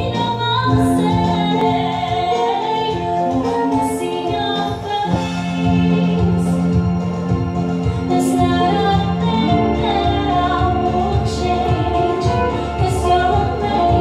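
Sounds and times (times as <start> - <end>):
song with female vocal: 0.0 - 14.0.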